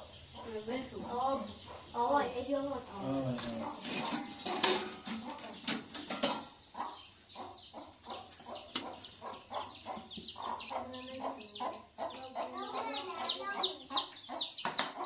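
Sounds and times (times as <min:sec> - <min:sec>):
chickens clucking and peeping: 0:00.0 - 0:15.0.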